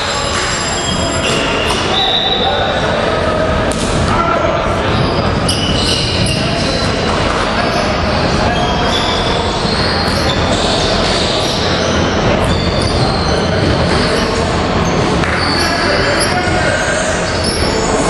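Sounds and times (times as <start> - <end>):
players' voices: 0.0 - 18.0.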